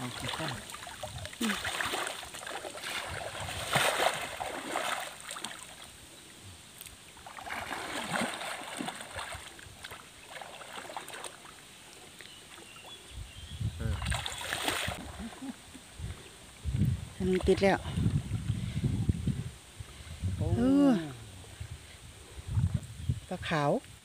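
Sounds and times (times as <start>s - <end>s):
pond water sloshing and splashing: 0.0s - 13.2s, 13.8s - 22.9s.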